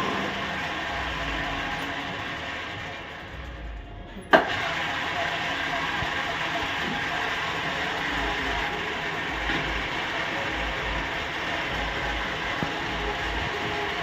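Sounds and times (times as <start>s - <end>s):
pulsing low hum: 0.0s - 4.3s, 5.4s - 14.0s
lathe gearing clatter: 0.0s - 14.0s.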